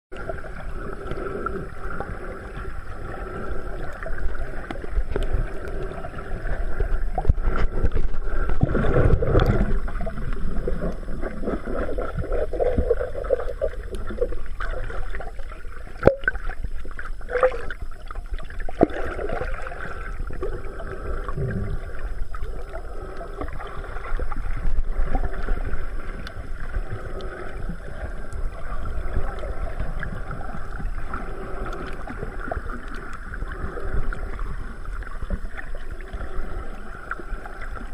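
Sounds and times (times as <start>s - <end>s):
muffled underwater water sloshing: 0.1s - 37.9s.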